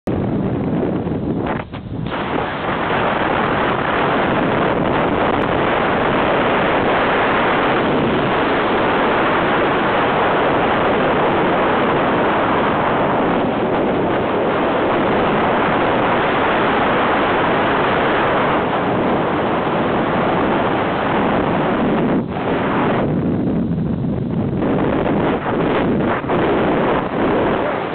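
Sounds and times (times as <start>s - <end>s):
airflow buffeting microphone: 0.0s - 27.9s.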